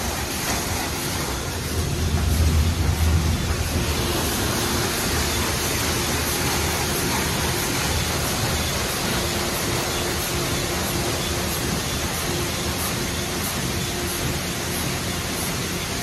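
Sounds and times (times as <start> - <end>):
faint machinery hum: 0.0 - 16.0
high-pressure water spraying car: 0.0 - 16.0.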